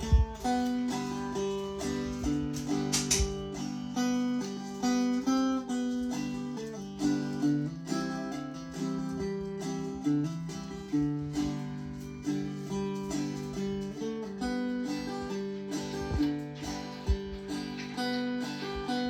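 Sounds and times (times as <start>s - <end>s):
banjo played clawhammer style: 0.0s - 19.0s.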